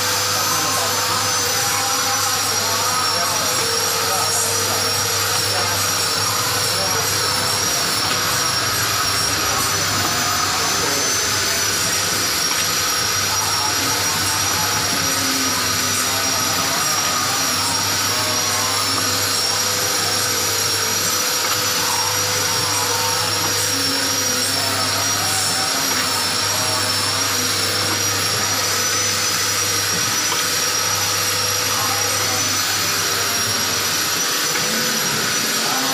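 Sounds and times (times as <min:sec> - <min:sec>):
machine hum and hiss: 0:00.0 - 0:35.9
thin high whine: 0:00.0 - 0:35.9.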